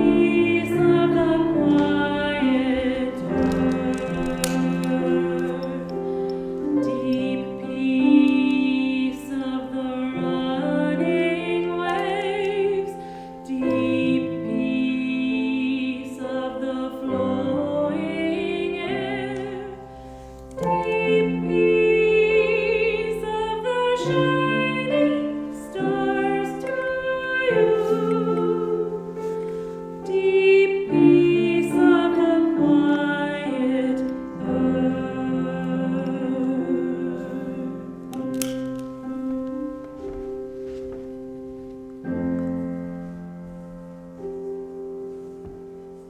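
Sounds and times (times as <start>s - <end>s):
choir singing a hymn: 0.0s - 38.8s
soft instrumental accompaniment: 0.0s - 46.0s.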